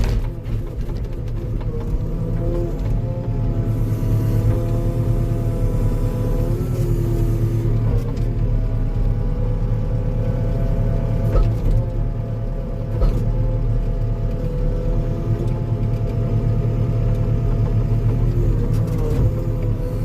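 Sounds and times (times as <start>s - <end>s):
skid steer engine running: 0.0s - 20.0s.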